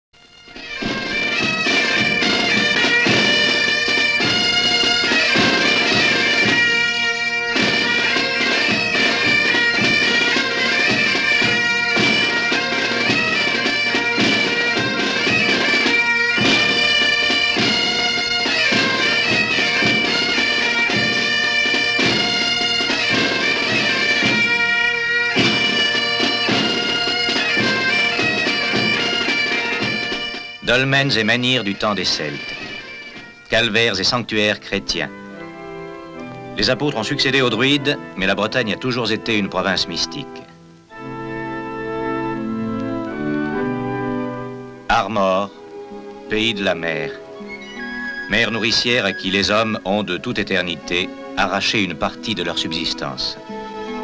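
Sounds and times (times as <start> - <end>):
bagpipe drone: 0.2 - 54.0
reedy bombarde melody: 0.2 - 54.0.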